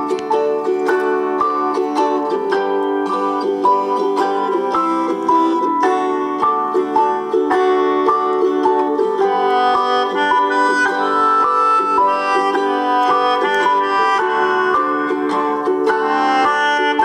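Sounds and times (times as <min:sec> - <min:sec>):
instrumental plucked string music: 0:00.0 - 0:17.0.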